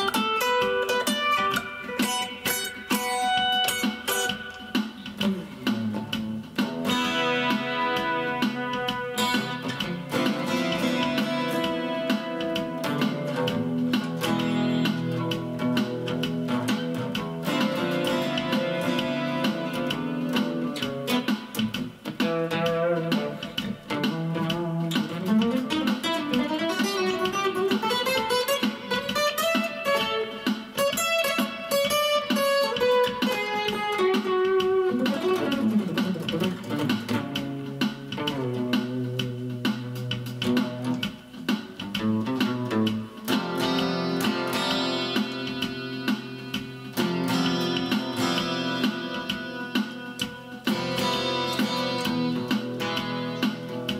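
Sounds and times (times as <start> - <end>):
acoustic guitar chords and melody: 0.0 - 53.9.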